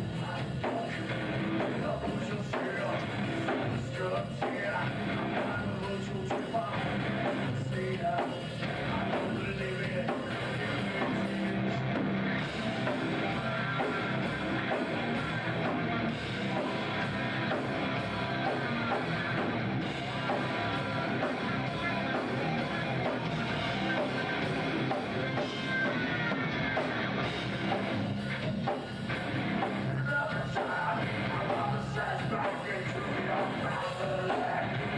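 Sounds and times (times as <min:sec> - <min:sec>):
drum kit: 0:00.0 - 0:34.9
electric guitars: 0:00.0 - 0:34.9.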